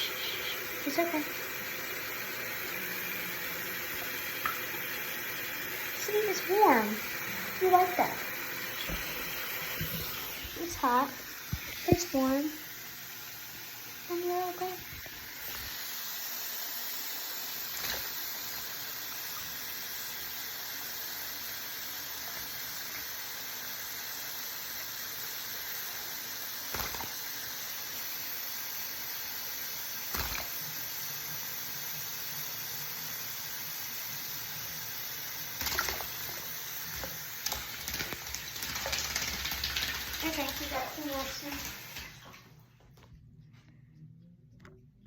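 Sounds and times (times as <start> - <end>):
water running from a tap: 0.0 - 42.6.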